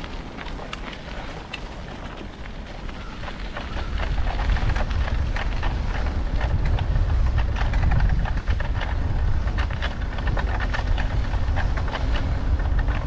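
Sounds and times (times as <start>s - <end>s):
crackle of small clicks: 0.0s - 13.0s
wind rumbling on microphone: 0.0s - 13.0s.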